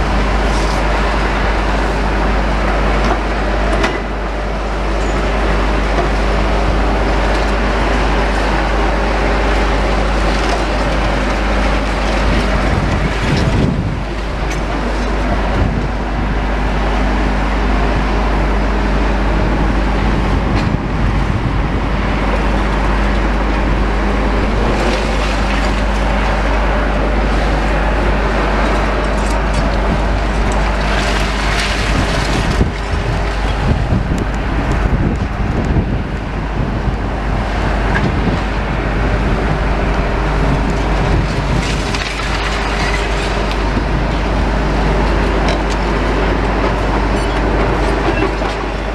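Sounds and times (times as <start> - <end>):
excavator diesel engines running: 0.0 - 48.9.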